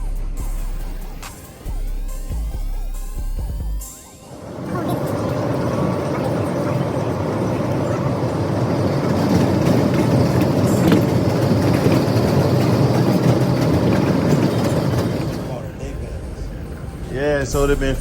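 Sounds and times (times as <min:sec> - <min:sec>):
subway train rumbling on rails: 0:00.0 - 0:18.0.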